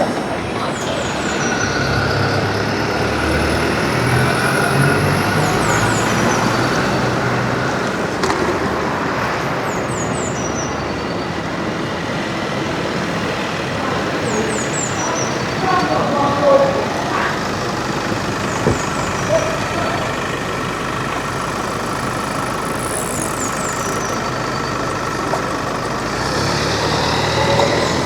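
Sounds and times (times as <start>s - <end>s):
city street traffic: 0.0s - 28.0s
heavy vehicle engine rumbling: 0.0s - 28.0s.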